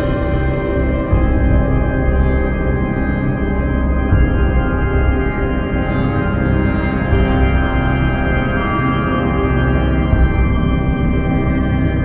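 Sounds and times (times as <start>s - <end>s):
spooky ambient drone music: 0.0s - 12.0s.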